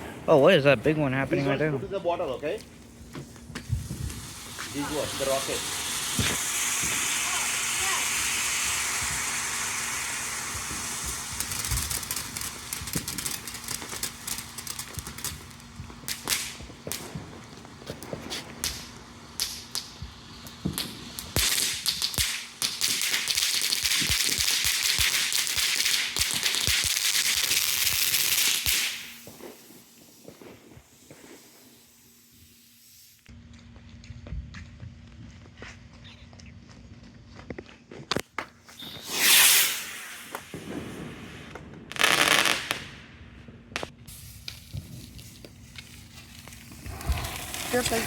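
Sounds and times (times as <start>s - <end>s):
firework hissing: 0.1s - 33.3s, 38.7s - 43.2s, 43.8s - 48.0s
firework crackles and pops: 0.3s - 33.4s, 38.1s - 48.0s
loud firework crack: 2.2s - 33.3s, 38.1s - 48.0s.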